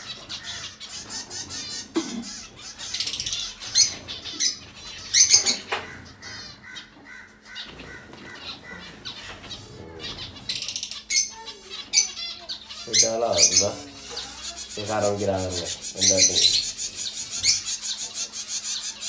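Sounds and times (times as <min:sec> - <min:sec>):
finches calling: 0:00.0 - 0:19.0.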